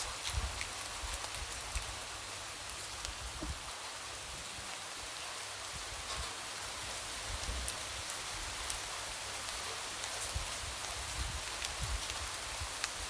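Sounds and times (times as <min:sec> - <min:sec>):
light rain hissing: 0:00.0 - 0:13.0.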